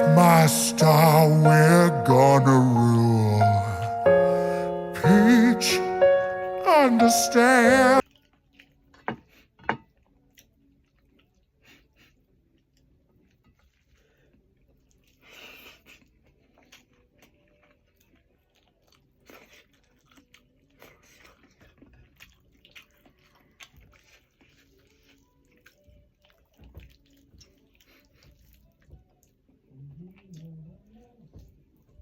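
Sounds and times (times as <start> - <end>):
person chewing meat: 0.0 - 5.4, 8.0 - 32.0.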